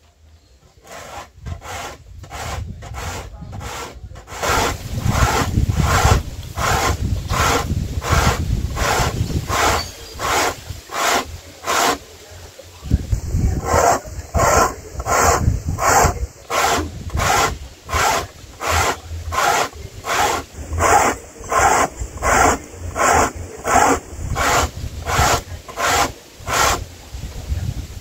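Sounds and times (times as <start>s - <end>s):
corn cob scraping on grater: 0.8s - 12.2s, 13.5s - 26.9s.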